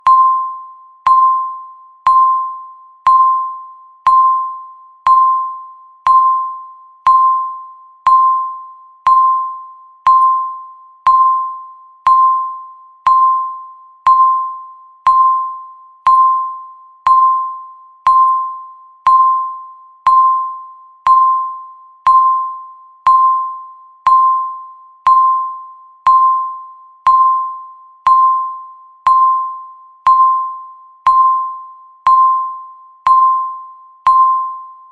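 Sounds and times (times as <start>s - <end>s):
short electronic timer beeps: 0.0s - 34.9s.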